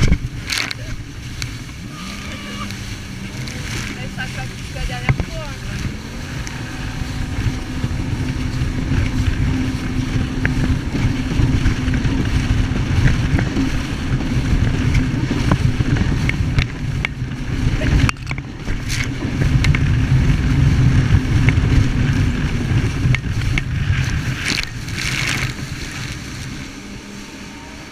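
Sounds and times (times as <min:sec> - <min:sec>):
jet ski engine drone: 0:00.0 - 0:27.9
noisy rushing: 0:00.0 - 0:27.9.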